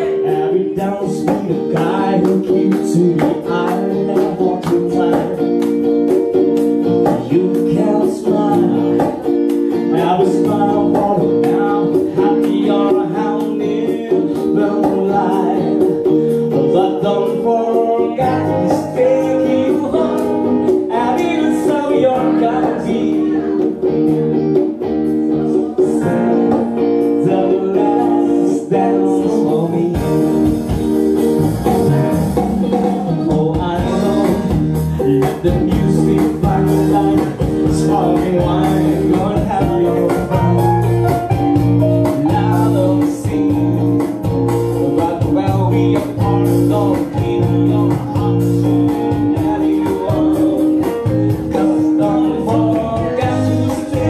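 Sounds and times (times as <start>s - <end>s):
person singing into microphone: 0.0s - 30.8s, 32.6s - 54.0s
bass guitar: 0.0s - 54.0s
electric guitar: 0.0s - 54.0s
keyboard: 0.0s - 54.0s.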